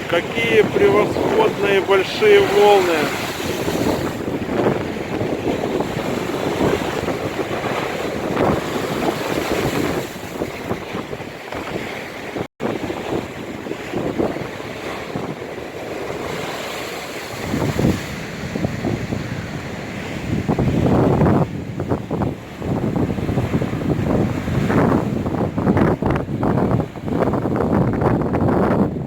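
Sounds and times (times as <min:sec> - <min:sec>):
storm waves breaking on shore: 0:00.0 - 0:29.0
wind buffeting microphone: 0:00.0 - 0:29.0.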